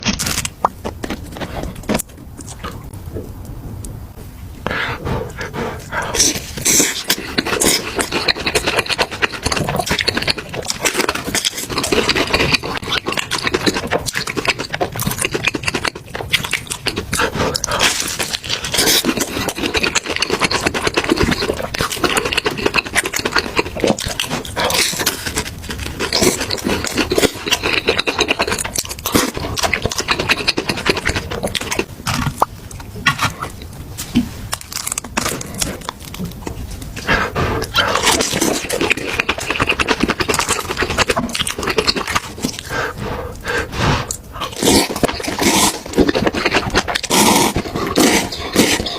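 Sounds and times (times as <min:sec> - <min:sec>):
wet chewing and slurping noodles: 0:05.0 - 0:48.9.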